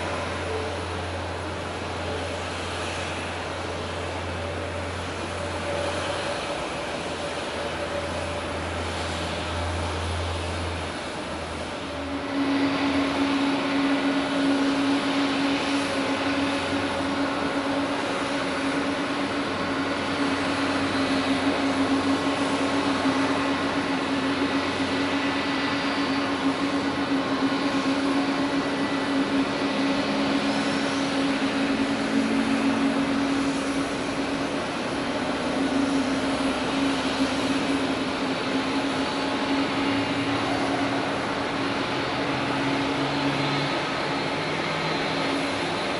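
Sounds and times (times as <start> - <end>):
jet airliner engines humming: 0.0 - 45.9.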